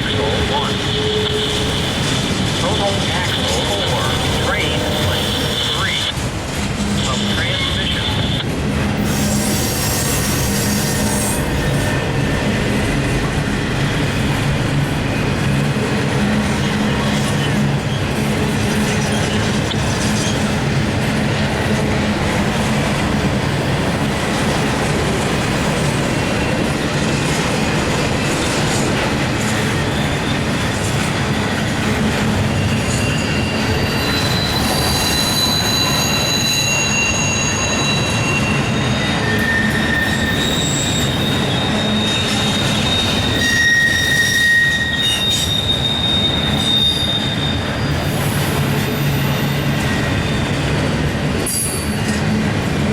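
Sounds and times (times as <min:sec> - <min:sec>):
wheel flanges squealing on rail: 0:00.0 - 0:14.4, 0:15.1 - 0:52.8
train wheels rumbling and clacking: 0:00.0 - 0:52.9.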